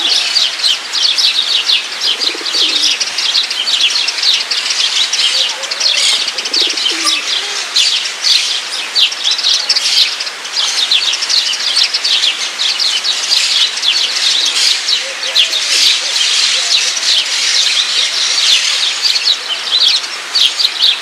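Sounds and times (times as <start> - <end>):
low bird calls: 0.0 - 21.0
small songbirds chirping: 0.0 - 21.0.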